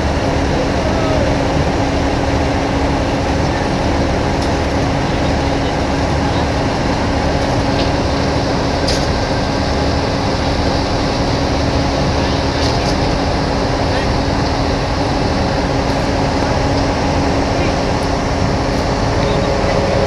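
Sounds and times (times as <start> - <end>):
airport ramp machinery drone: 0.0 - 20.0
constant hum: 0.0 - 20.0.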